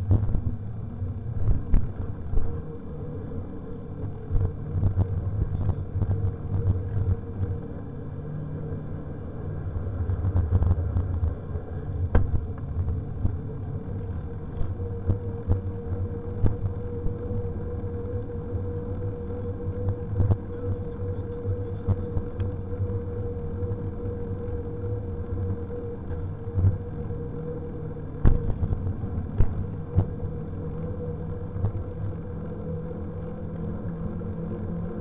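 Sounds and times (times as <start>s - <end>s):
faint steady whine: 0.0s - 35.0s
wind over microphone: 0.0s - 35.0s.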